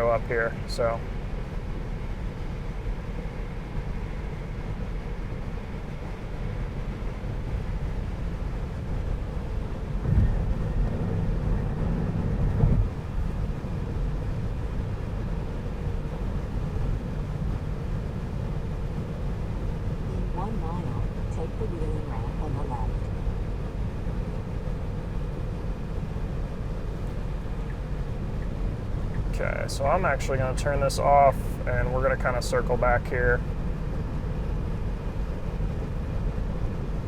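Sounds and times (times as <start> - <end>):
road and tyre noise in car: 0.0 - 37.0.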